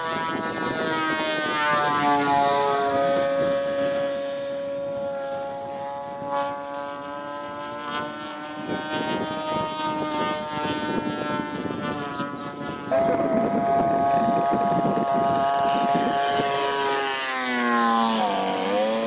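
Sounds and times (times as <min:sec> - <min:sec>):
model aeroplane motor droning: 0:00.0 - 0:19.0.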